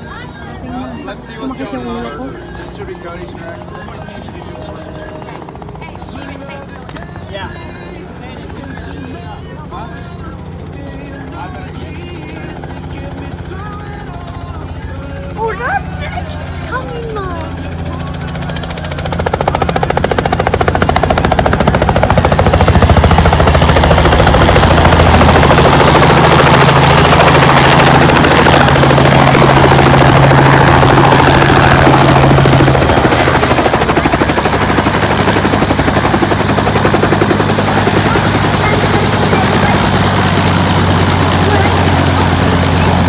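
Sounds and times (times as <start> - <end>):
helicopter rotor chop: 0.0 - 43.0.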